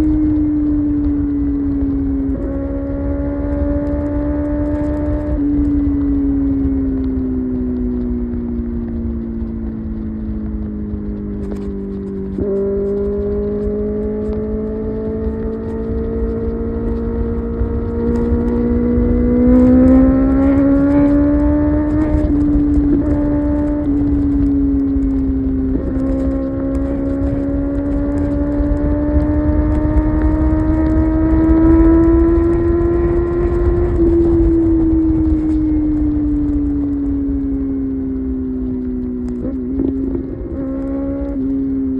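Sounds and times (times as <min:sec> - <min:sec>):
low wind rumble: 0:00.0 - 0:41.9
motorcycle engine accelerating: 0:00.0 - 0:41.9.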